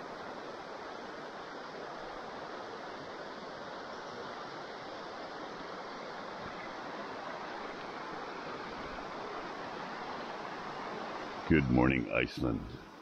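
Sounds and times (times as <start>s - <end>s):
river rushing over stones: 0.0s - 11.8s.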